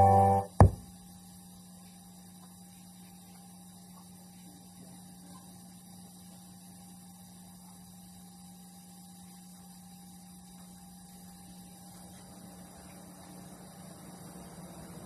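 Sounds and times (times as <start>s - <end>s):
speaker electrical hum: 0.0s - 15.0s.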